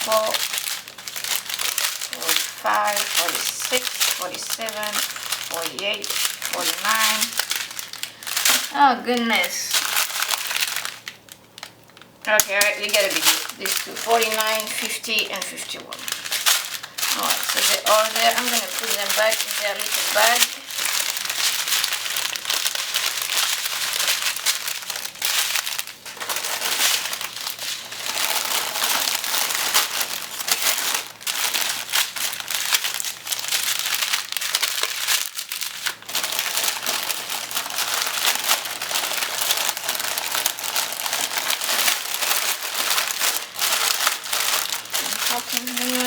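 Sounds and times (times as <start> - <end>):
plastic bags crinkling: 0.0 - 46.0.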